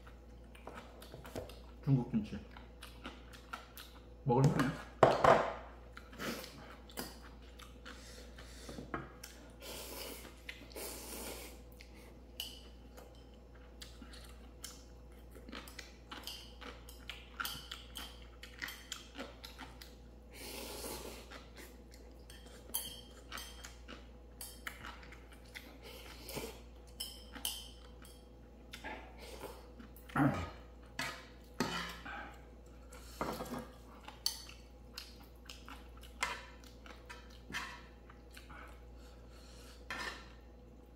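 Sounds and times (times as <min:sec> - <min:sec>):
chewing: 0:02.4 - 0:05.0, 0:05.7 - 0:10.8, 0:11.6 - 0:40.9.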